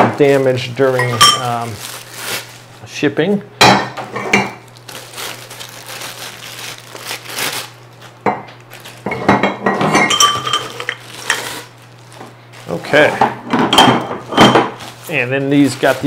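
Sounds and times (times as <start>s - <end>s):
plastic wrapping crinkling: 0.0s - 2.9s, 4.4s - 13.2s, 13.8s - 16.0s.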